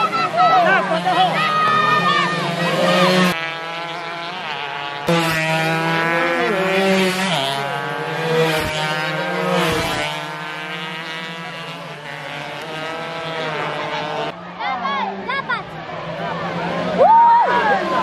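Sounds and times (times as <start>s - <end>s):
racing motorcycles revving: 0.0s - 18.0s.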